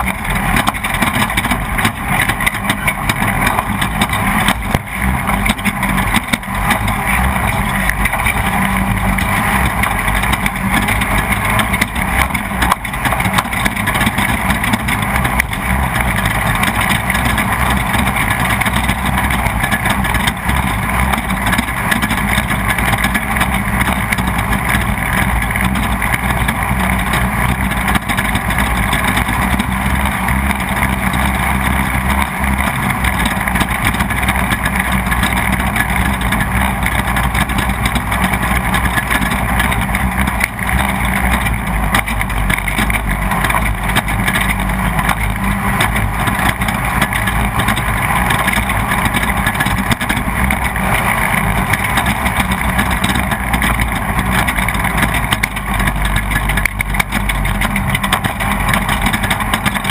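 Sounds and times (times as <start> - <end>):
knocks from rough ride: 0.0 - 59.9
race car engine running: 0.0 - 59.9.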